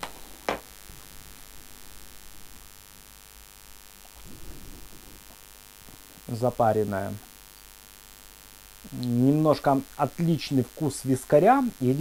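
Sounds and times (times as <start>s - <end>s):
steady low hum and hiss: 0.0s - 12.0s.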